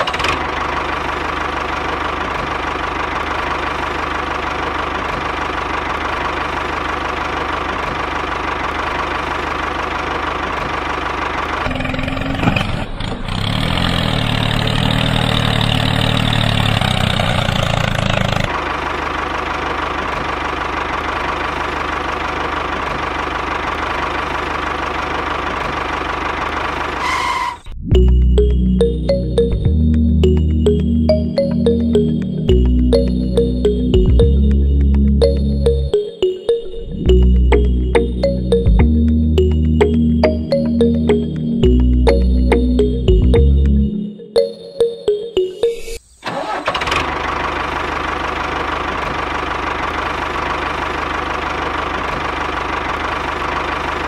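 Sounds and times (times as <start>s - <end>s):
diesel tractor engine running: 0.0s - 36.1s, 36.8s - 44.2s, 46.2s - 54.0s.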